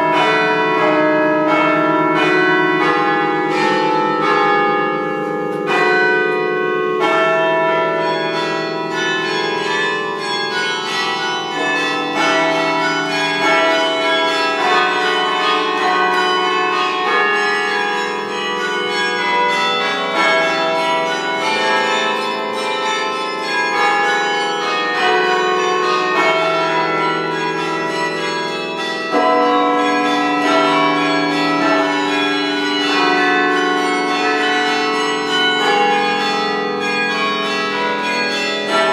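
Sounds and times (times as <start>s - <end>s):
carillon bells playing melody: 0.0s - 38.9s.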